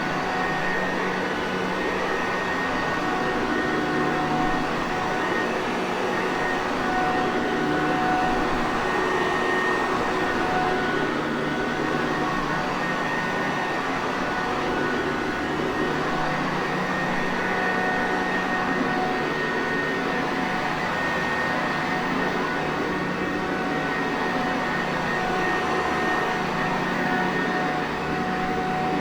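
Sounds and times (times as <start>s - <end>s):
vacuum cleaner running: 0.1s - 29.0s.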